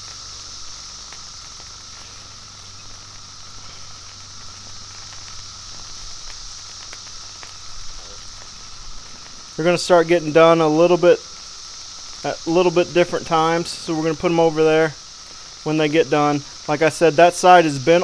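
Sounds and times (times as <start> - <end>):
chicken wings sizzling on griddle: 0.0 - 18.0
cicadas droning: 0.0 - 18.0.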